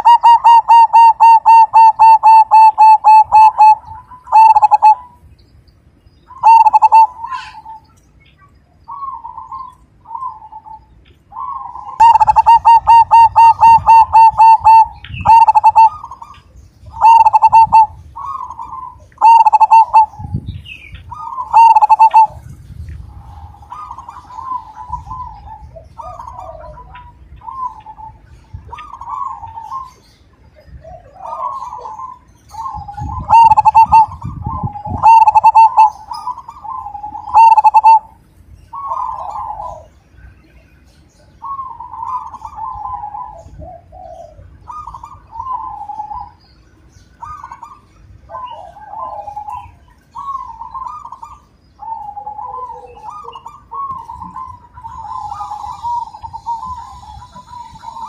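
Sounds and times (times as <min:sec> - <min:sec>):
dove cooing: 0:00.0 - 0:05.2, 0:06.3 - 0:07.9, 0:08.9 - 0:40.0, 0:41.2 - 0:46.4, 0:47.2 - 0:58.0.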